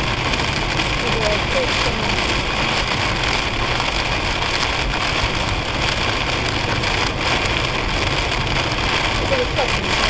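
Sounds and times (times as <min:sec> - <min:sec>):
heavy rain on car windshield: 0:00.0 - 0:10.0
road noise on wet highway: 0:00.0 - 0:10.0.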